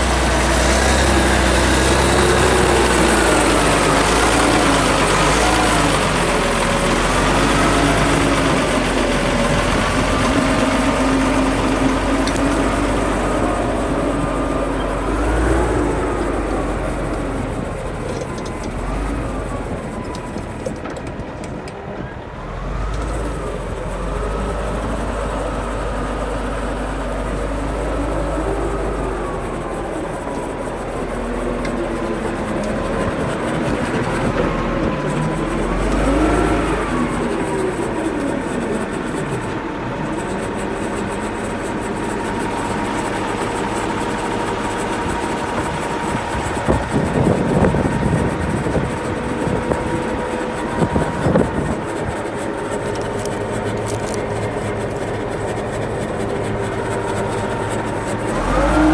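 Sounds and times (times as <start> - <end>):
engine running: 0.0 - 58.9.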